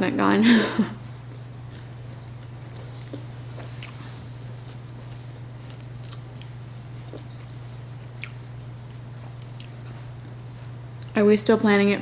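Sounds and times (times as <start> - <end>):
low electrical hum: 0.0 - 12.0
chewing and crunching: 1.0 - 11.2.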